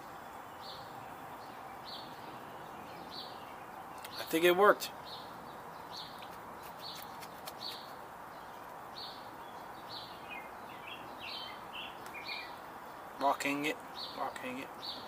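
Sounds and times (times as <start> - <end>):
birds chirping: 0.0 - 15.0
outdoor background hiss: 0.0 - 15.0.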